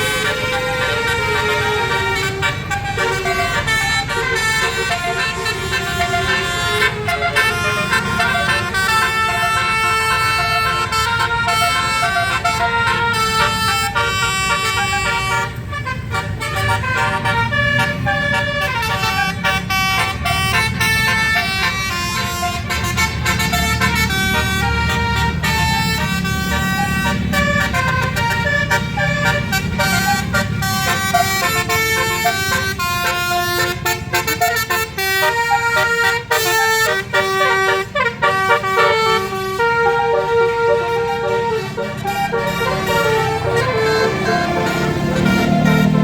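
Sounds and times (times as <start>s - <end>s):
bus horn playing a tune: 0.0s - 46.0s.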